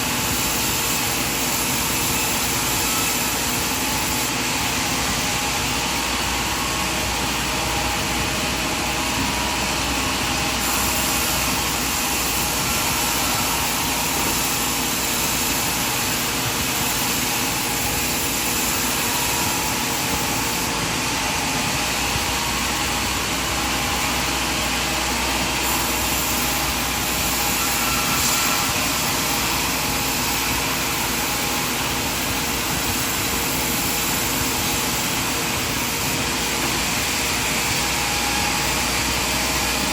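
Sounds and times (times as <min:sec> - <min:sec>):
sawmill machinery whirring: 0:00.0 - 0:39.9.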